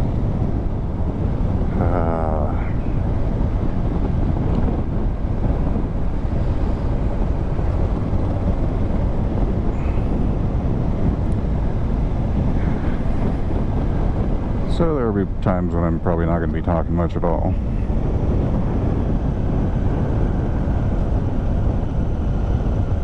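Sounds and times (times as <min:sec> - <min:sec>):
road noise: 0:00.0 - 0:23.0
wind rush in helmet: 0:00.0 - 0:23.0.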